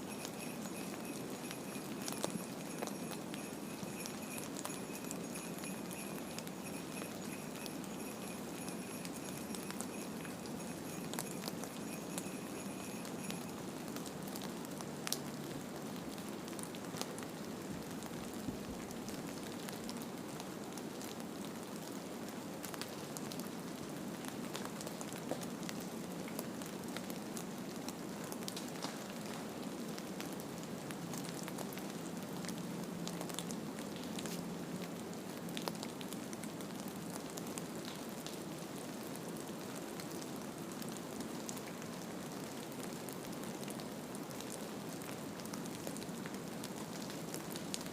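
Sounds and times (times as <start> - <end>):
small crackles and ticks: 0.0 - 47.9.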